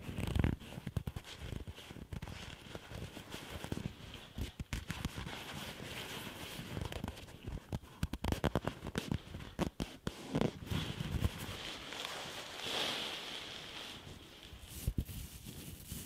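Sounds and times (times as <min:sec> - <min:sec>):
mesh fabric rustling and crackling: 0:00.0 - 0:16.0.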